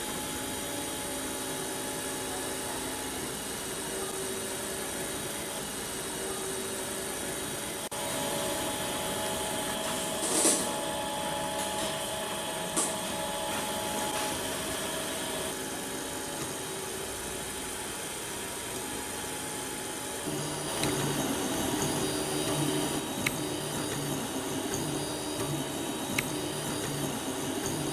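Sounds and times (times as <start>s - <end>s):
printer stepper motors humming: 0.0s - 27.9s.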